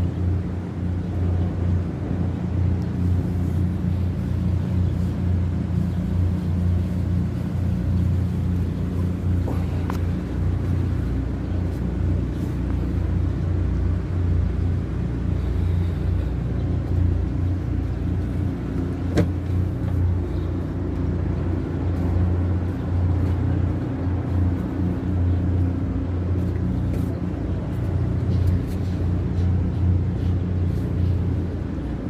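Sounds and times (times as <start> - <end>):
boat engine drone: 0.0 - 32.0.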